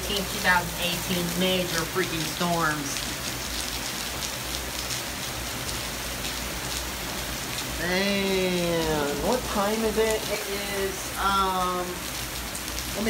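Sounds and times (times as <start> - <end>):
heavy rain downpour: 0.0 - 13.0.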